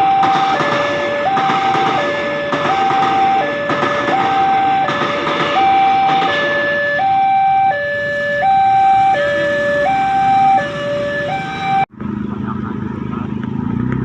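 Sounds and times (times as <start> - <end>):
two-tone emergency siren: 0.0 - 11.9.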